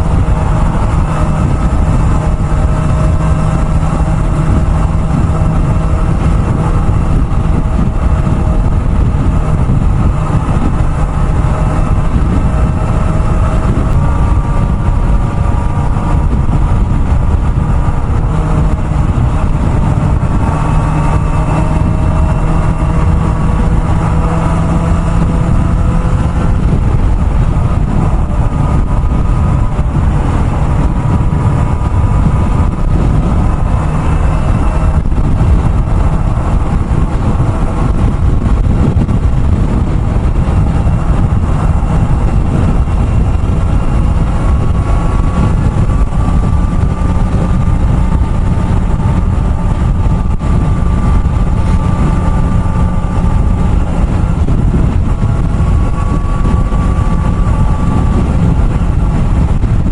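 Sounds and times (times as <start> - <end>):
motorcycle engine cruising: 0.0 - 59.9
road rumble: 0.0 - 59.9
wind noise: 0.0 - 59.9.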